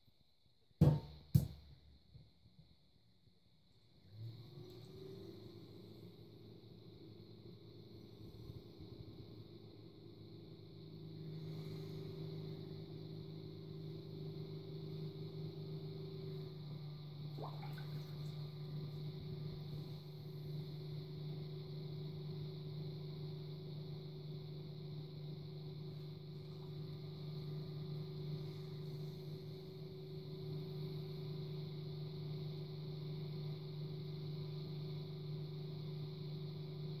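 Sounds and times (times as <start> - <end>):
potter's wheel motor humming: 4.0 - 37.0.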